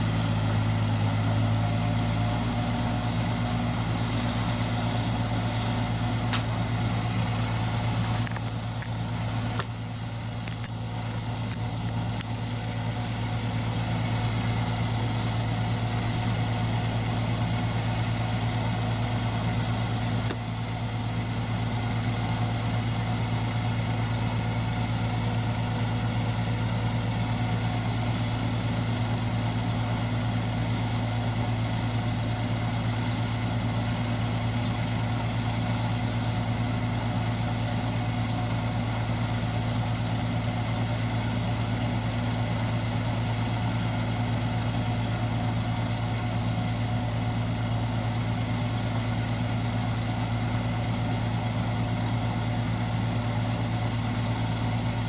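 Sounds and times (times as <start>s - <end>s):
harvester engine drone: 0.0s - 55.0s.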